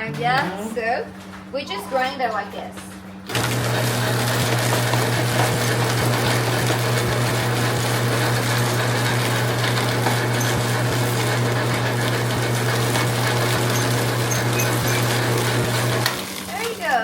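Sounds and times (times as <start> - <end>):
electric grinder cracking beans: 3.2 - 17.0.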